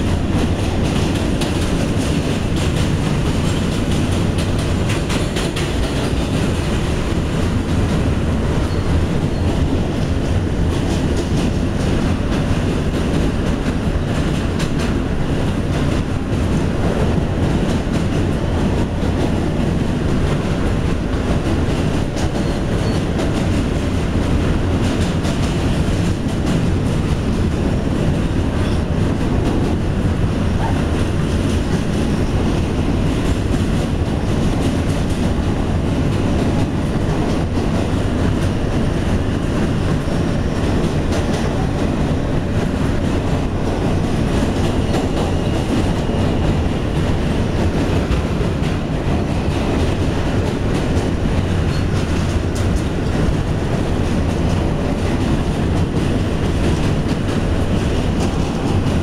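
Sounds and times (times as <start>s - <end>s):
subway train wheels rumbling on rails: 0.0s - 59.0s.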